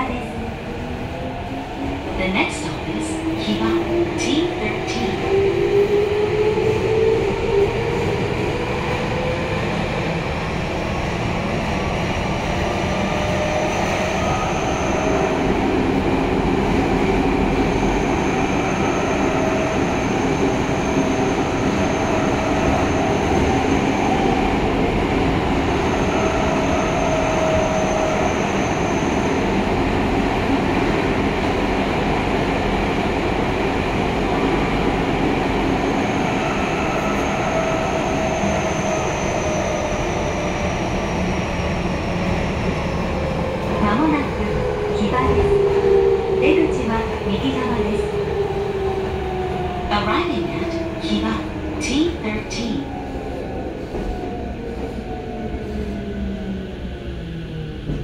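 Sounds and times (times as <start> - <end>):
subway train wheels roaring: 0.0 - 58.0.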